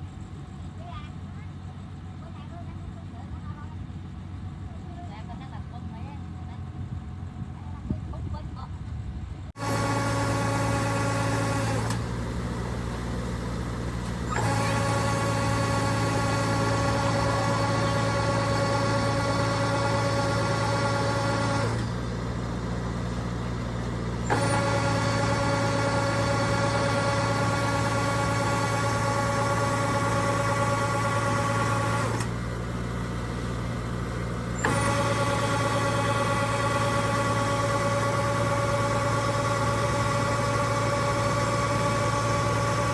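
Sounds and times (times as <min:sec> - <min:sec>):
combine harvester engine drone: 0:00.0 - 0:42.9
steady machine whine: 0:07.3 - 0:42.9.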